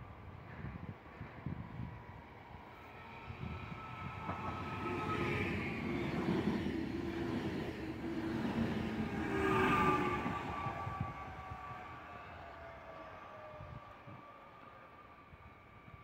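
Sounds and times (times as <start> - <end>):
rail and wheel rumble: 0.0 - 16.0.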